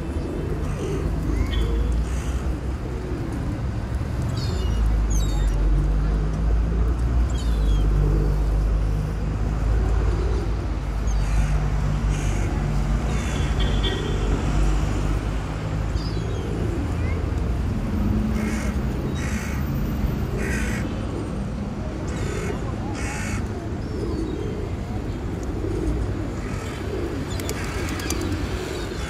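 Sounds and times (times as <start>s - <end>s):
low rumble of traffic: 0.0s - 29.0s.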